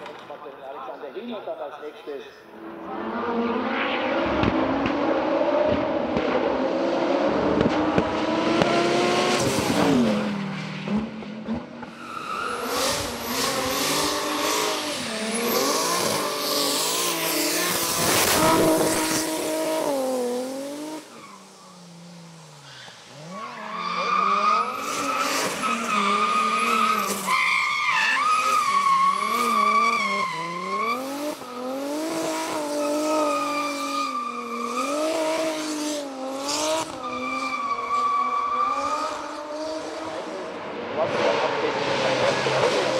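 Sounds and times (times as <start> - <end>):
race car engines revving hard: 2.6 - 42.9.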